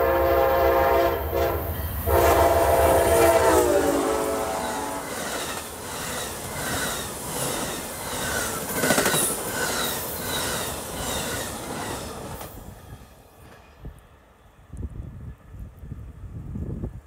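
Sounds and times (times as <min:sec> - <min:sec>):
train wheels rumbling and clacking: 0:00.0 - 0:14.1.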